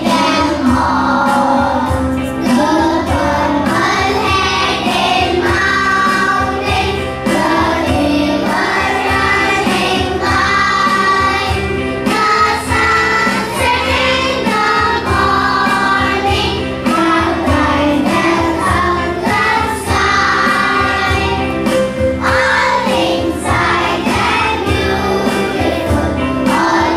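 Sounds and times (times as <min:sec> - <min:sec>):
children singing: 0:00.0 - 0:26.9.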